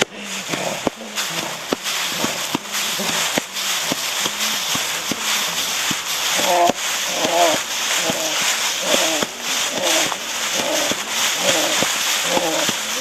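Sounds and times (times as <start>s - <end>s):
constant hiss: 0.0s - 13.0s
footsteps walking: 0.0s - 13.0s.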